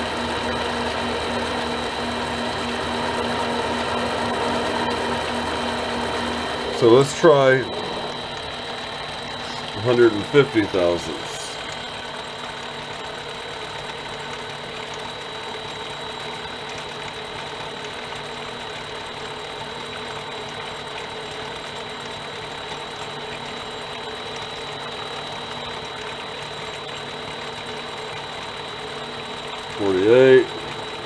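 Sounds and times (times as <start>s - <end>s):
high whine of cutting tool: 0.0s - 31.0s
lathe motor humming: 0.0s - 31.0s.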